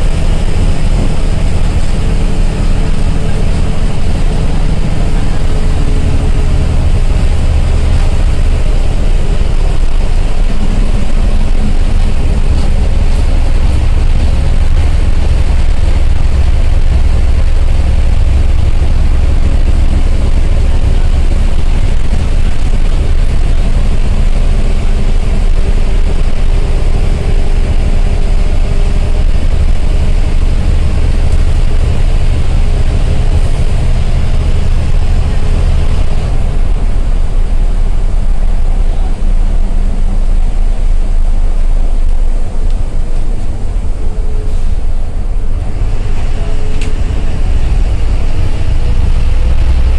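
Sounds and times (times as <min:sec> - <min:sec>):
bus engine drone: 0:00.0 - 0:49.9
faint engine whine: 0:00.0 - 0:49.9
road noise hiss: 0:00.0 - 0:49.9.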